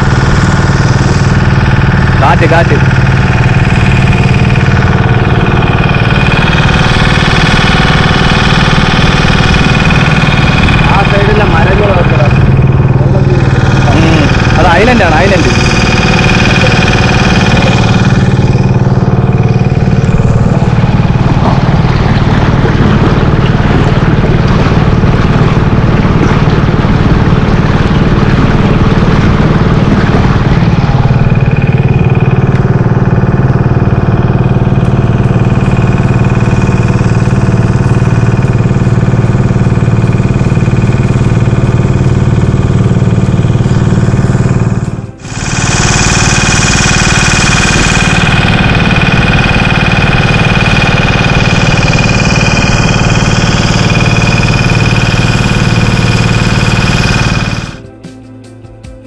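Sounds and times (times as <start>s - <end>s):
boat engine drone: 0.0s - 58.1s.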